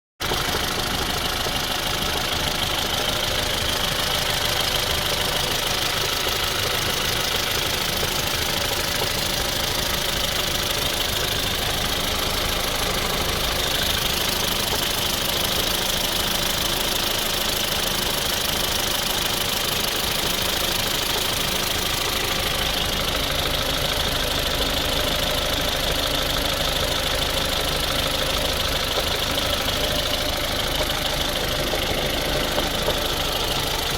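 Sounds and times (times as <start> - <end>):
car engine running: 0.2 - 33.9
extraneous engine noise: 0.2 - 33.9.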